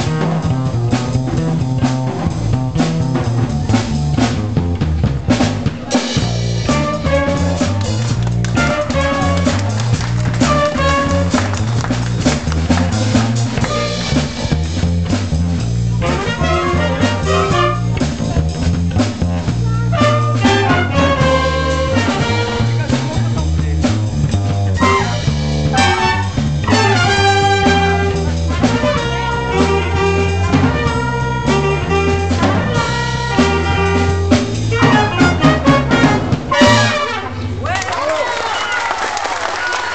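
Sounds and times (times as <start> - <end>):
jazz band playing funk: 0.0 - 37.8
bass line: 0.0 - 38.1
drum kit: 0.0 - 38.1
saxophones and trumpets: 5.3 - 37.8
horns playing: 5.3 - 38.3.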